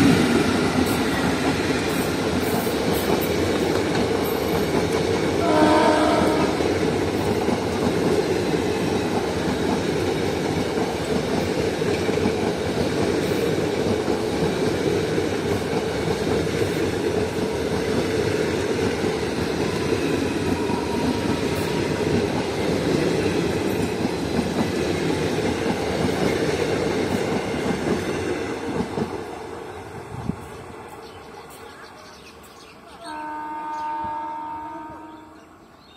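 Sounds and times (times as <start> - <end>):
train wheels rumbling on rails: 0.0 - 32.8.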